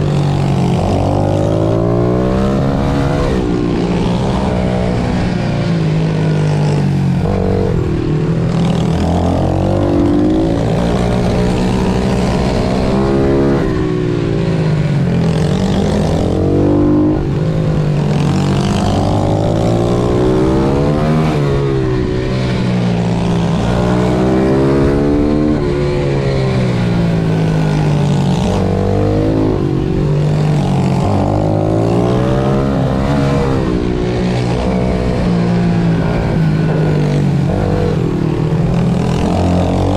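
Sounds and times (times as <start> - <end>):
pit bike engines racing: 0.0 - 39.9.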